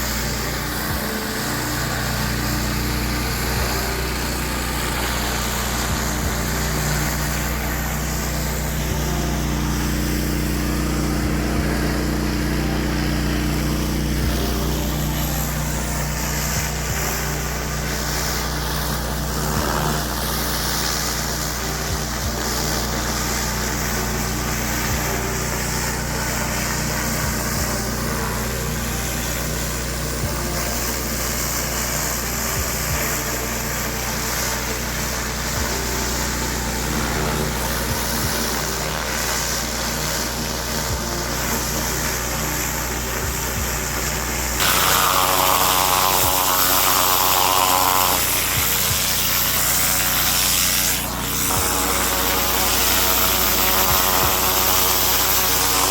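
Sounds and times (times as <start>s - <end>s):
pressure washer engine running: 0.0s - 55.9s
spray hissing: 0.0s - 55.9s.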